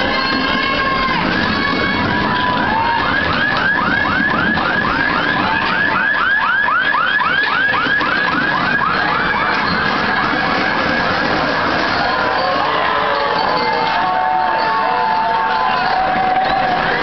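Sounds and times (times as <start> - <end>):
siren-like electronic warble: 1.3 - 17.0.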